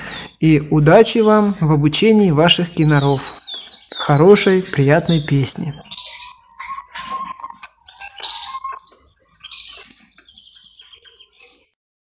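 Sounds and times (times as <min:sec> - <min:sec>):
canary singing: 0:00.0 - 0:11.8.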